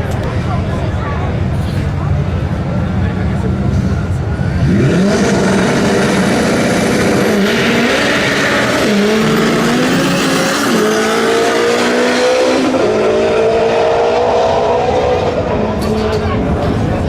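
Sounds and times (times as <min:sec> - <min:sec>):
car engine accelerating hard: 0:01.9 - 0:17.0.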